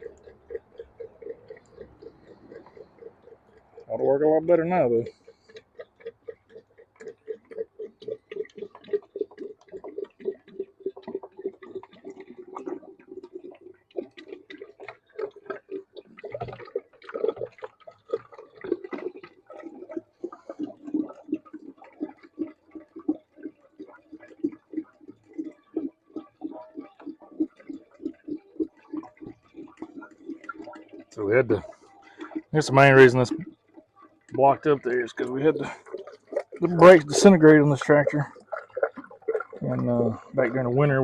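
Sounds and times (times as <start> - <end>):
fluid glugging from container: 0.0 - 41.0.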